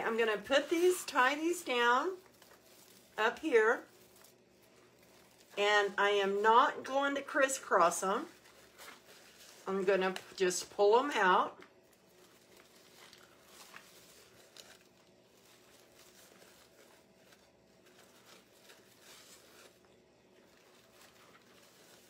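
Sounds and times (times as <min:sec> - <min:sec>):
low steady hum: 0:00.0 - 0:22.0
ribbon rustling: 0:00.0 - 0:22.0.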